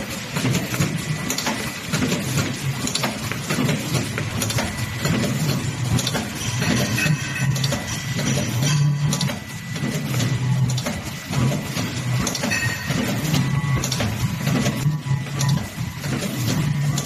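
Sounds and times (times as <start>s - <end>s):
machine clicks and clacks: 0.0s - 17.0s
packaging machine hum: 0.0s - 17.0s.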